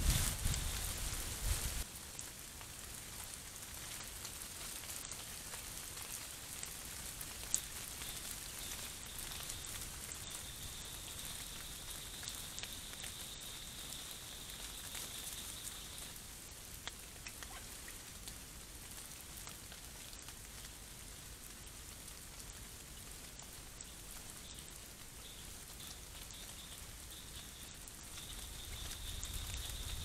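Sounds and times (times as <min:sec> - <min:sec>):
faint microphone hiss: 0:00.0 - 0:30.0.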